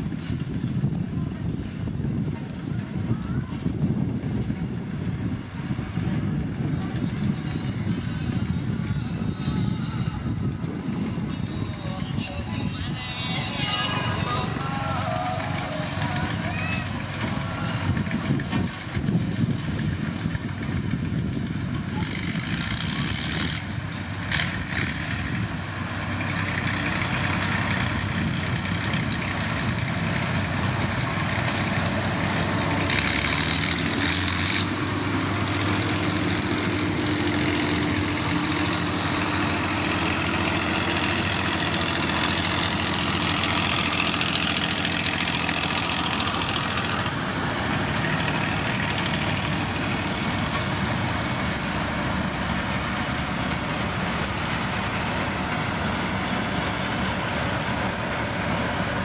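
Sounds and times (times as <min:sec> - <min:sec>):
heavy diesel machines running: 0:00.0 - 0:59.0.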